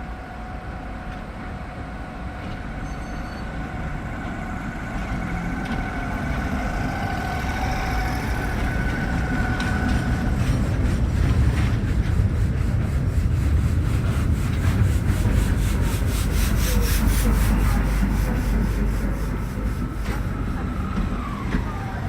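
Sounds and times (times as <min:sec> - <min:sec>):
train passing with low rumble: 0:00.0 - 0:22.0.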